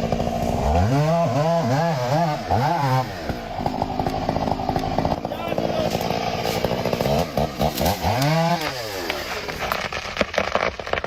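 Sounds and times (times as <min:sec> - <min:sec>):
chainsaw rattling idle: 0:00.0 - 0:00.9, 0:01.7 - 0:11.0
chainsaw cutting wood: 0:00.0 - 0:11.0.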